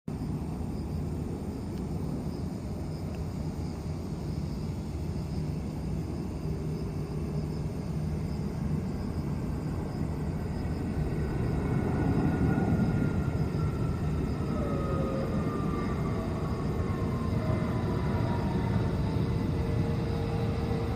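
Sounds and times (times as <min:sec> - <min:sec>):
jet engine low rumble: 0:00.1 - 0:20.9
jet engine whine falling: 0:00.1 - 0:20.9.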